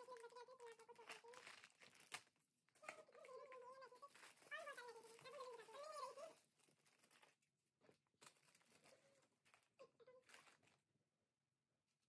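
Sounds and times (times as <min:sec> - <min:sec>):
rustling of plastic packets: 0:00.0 - 0:11.0.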